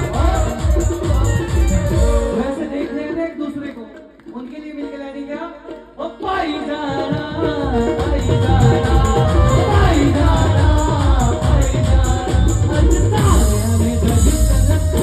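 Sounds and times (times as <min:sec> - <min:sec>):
devotional band with singing: 0:00.0 - 0:15.0.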